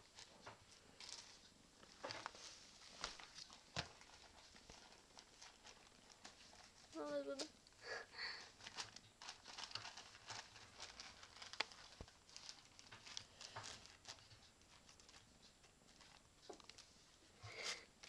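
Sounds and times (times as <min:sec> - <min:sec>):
plastic bag crinkling: 0:00.0 - 0:17.9.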